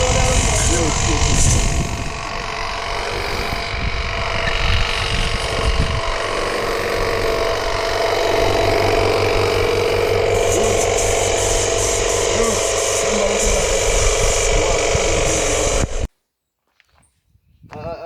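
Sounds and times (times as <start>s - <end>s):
engine running steadily: 0.0s - 16.1s.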